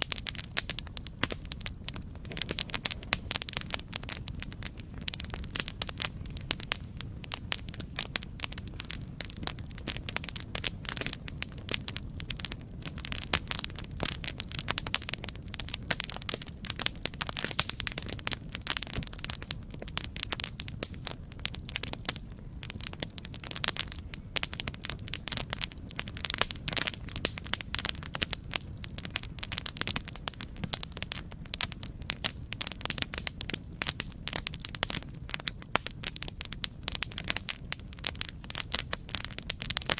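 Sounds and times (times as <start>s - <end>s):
campfire crackling: 0.0s - 39.9s
low rumble of burning: 0.0s - 39.9s.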